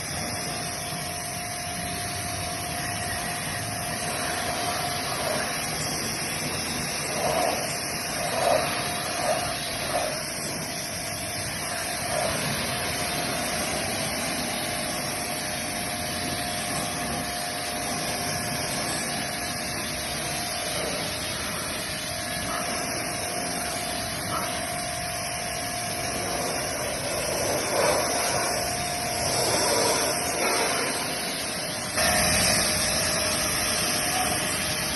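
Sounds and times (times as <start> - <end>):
motor whine: 0.0 - 34.9
pressure washer spray hiss: 0.0 - 34.9.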